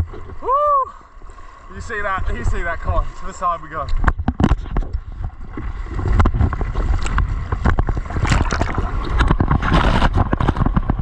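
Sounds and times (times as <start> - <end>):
seawater splashing and rushing: 0.0 - 11.0.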